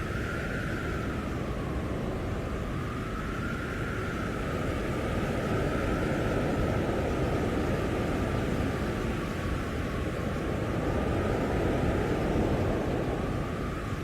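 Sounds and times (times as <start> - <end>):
blizzard wind howling: 0.0 - 14.0.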